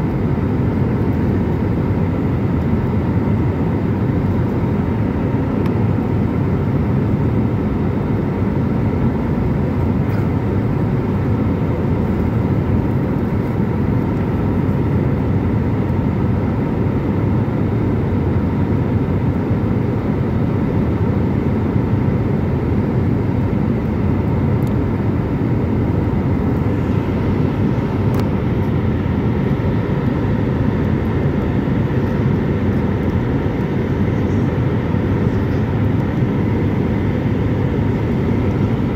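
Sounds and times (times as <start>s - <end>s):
jet engine rumble and rushing air: 0.0s - 38.9s.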